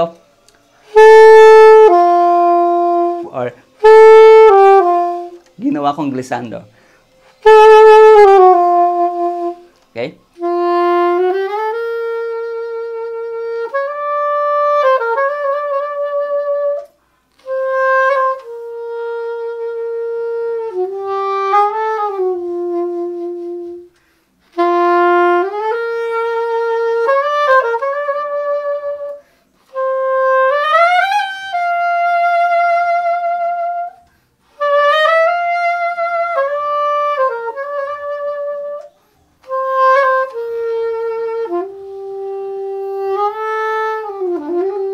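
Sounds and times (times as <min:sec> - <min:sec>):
saxophone slow melody: 0:00.0 - 0:44.9.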